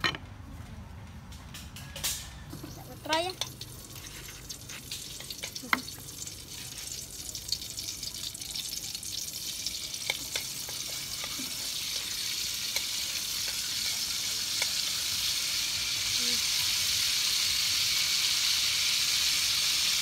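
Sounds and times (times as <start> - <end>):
oil sizzling in a wok: 2.6 - 20.0.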